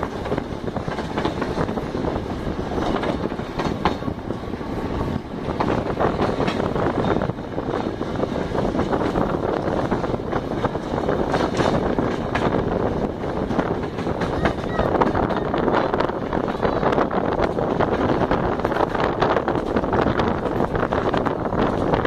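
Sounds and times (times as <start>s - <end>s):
train wheels rattling: 0.0s - 22.0s.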